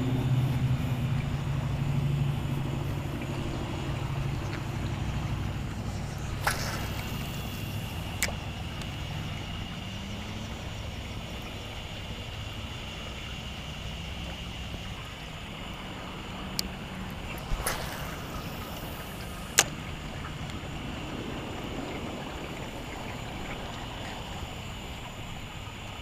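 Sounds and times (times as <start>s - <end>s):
motor engine droning: 0.0s - 26.0s.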